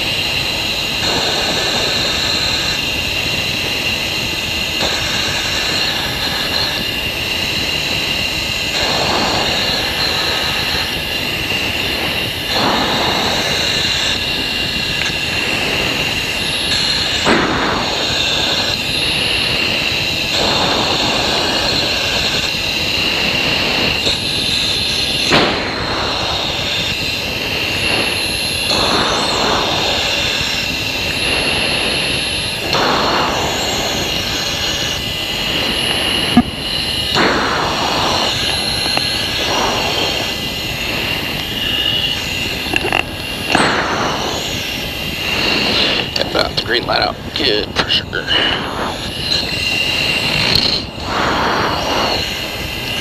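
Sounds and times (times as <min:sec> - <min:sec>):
jet cockpit hiss and whine: 0:00.0 - 0:53.0.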